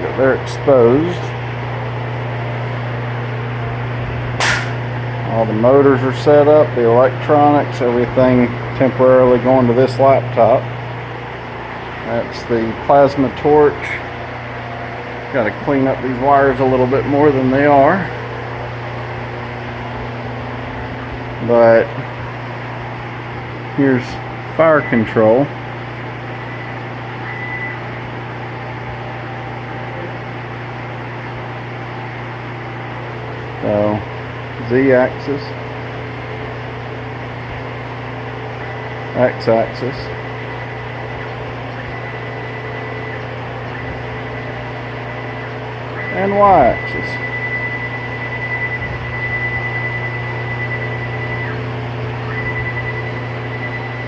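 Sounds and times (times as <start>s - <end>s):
low electrical hum: 0.0s - 54.0s
stepper motor high-pitched whine: 0.0s - 54.0s.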